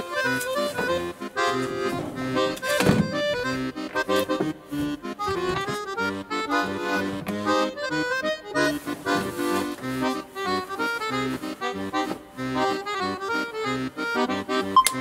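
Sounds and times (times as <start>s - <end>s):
accordion tune: 0.0s - 15.0s
bass and chord rhythm: 0.0s - 15.0s.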